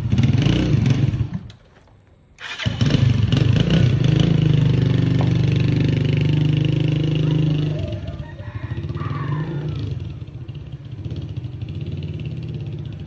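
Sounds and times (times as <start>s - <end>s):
motorcycle engine idling: 2.4s - 13.0s.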